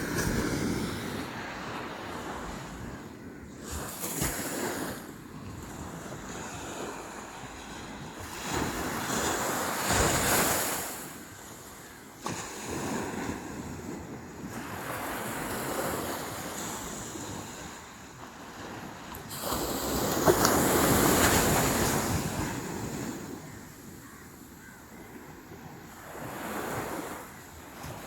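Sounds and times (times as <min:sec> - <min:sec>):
sea waves breaking on shore: 0:00.0 - 0:03.0, 0:03.6 - 0:28.0.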